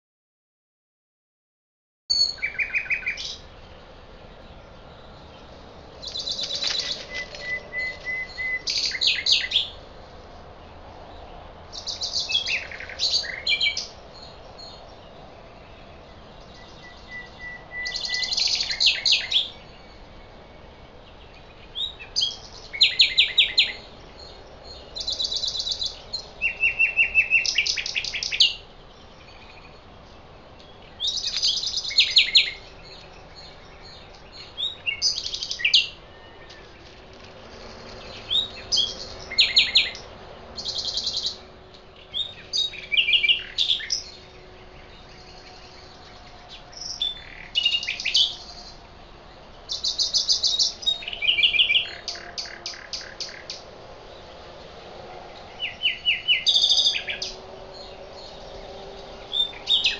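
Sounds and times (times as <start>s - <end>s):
low background hiss: 2.1s - 59.9s
songbird singing trills: 2.1s - 59.9s.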